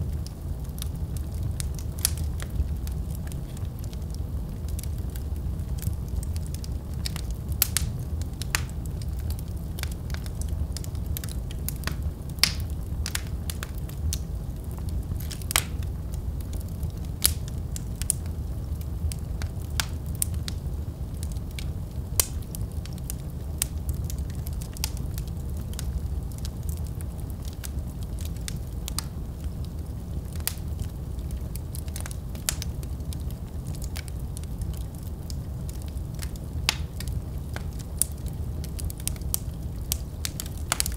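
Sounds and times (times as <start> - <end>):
fire flames rumbling: 0.0 - 40.9
wood fire crackling and popping: 0.0 - 40.9.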